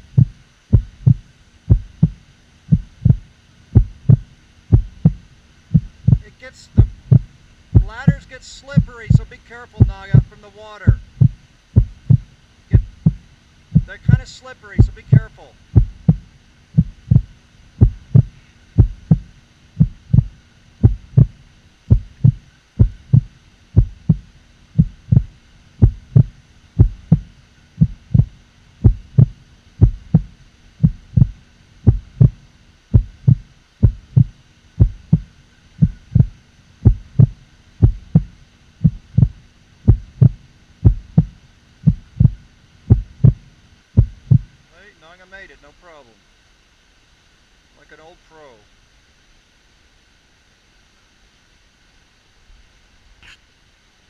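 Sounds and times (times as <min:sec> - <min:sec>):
low heartbeat-like thumps: 0:00.0 - 0:44.5
faint steady hum: 0:00.0 - 0:54.0.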